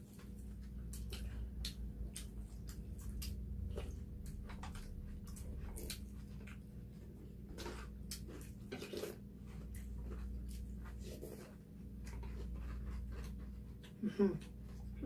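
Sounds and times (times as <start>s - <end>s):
chewing: 0.0s - 15.0s
steady low hum: 0.0s - 15.0s.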